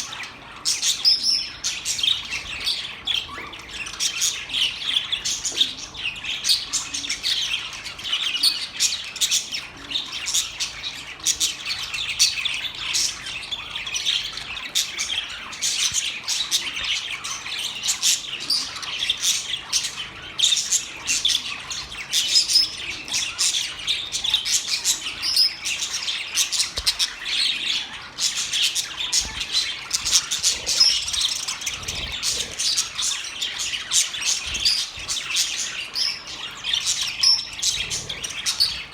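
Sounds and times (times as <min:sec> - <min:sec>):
budgies chattering and warbling: 0:00.0 - 0:38.9.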